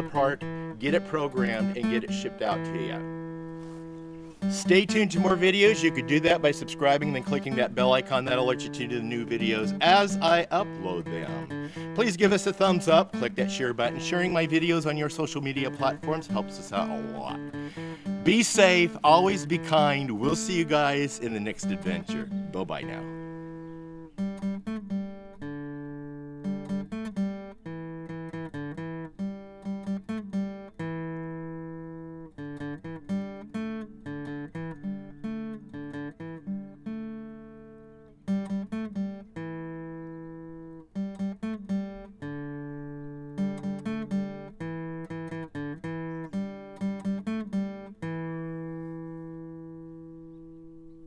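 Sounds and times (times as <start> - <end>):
acoustic guitar plucking: 0.0 - 51.0.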